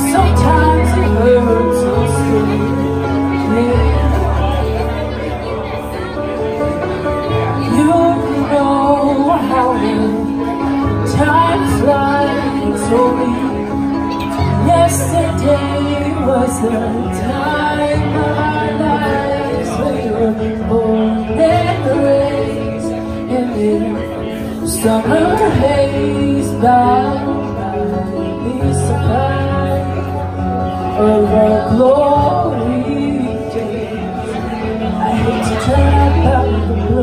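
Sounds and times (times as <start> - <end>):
woman singing karaoke: 0.0 - 6.2, 7.2 - 37.0.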